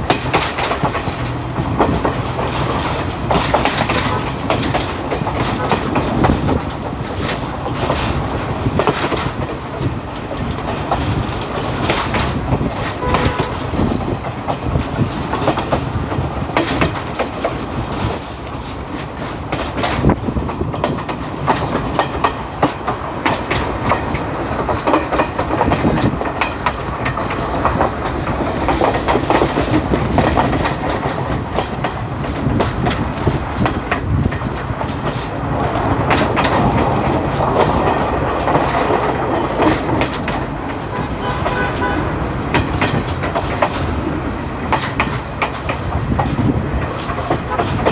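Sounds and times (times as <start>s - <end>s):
train rumbling: 0.0s - 47.9s
wheels clacking over rails: 0.0s - 47.9s.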